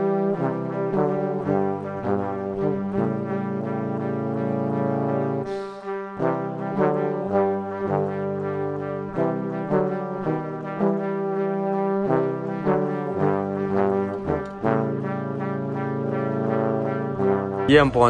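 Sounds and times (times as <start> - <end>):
slow melody of held notes: 0.0 - 17.7.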